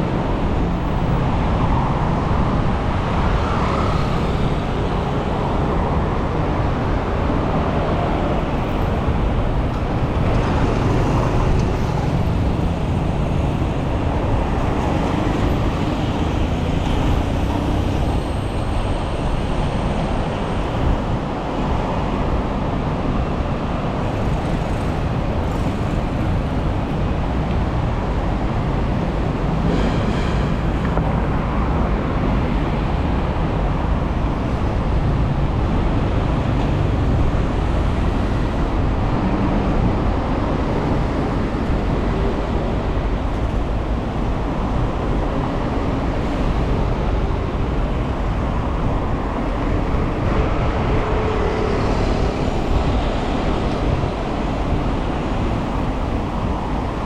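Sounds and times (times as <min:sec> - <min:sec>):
passing cars and engines: 0:00.0 - 0:57.0.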